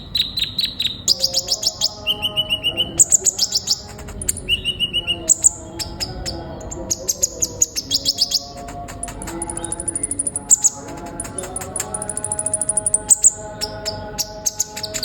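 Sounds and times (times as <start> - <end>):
sunbird chirping: 0.0 - 15.0.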